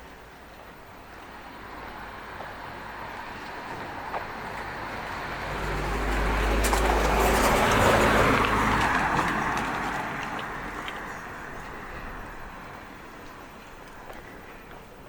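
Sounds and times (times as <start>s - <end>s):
vehicle passing: 1.3s - 14.8s.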